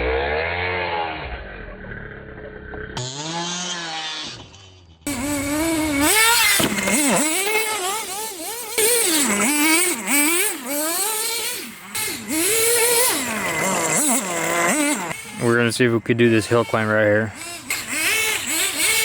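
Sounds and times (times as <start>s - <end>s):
electric toy car motor whining: 0.0s - 19.0s.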